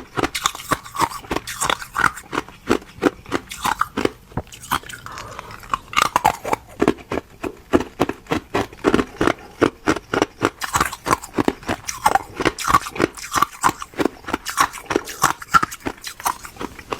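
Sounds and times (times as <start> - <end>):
ice being chewed: 0.0 - 16.9.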